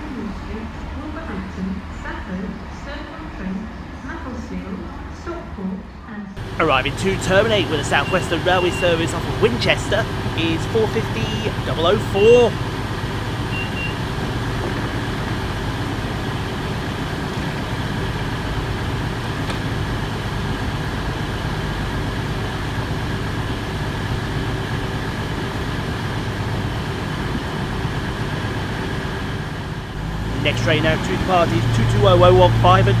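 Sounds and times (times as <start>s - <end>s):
train humming: 6.4s - 33.0s.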